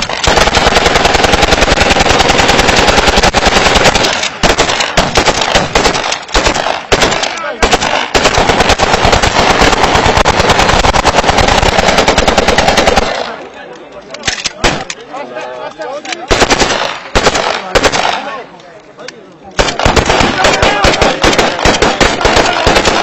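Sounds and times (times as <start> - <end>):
automatic gunfire: 0.0 - 13.3, 16.3 - 18.3, 19.6 - 23.0.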